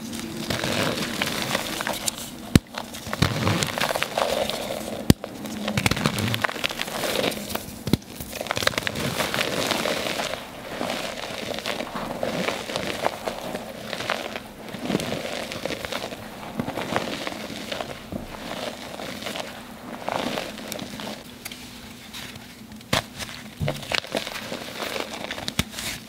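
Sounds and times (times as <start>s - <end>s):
chalk crunching in water: 0.0s - 21.4s, 22.9s - 26.0s.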